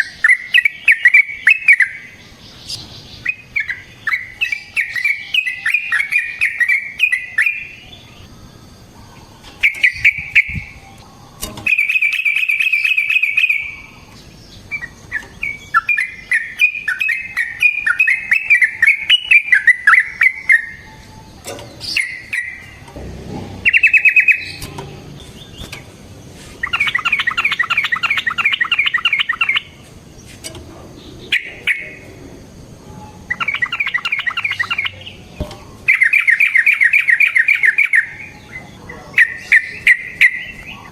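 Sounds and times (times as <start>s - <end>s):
bird singing chattering notes: 0.0s - 30.3s, 30.9s - 40.9s.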